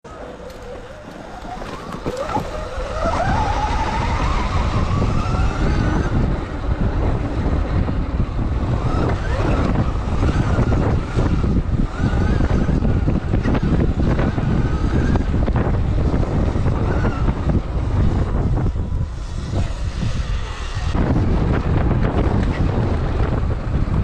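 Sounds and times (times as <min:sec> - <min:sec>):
wind rumble on microphone: 0:00.0 - 0:24.0
electric dirt bike motor whining: 0:00.1 - 0:24.0.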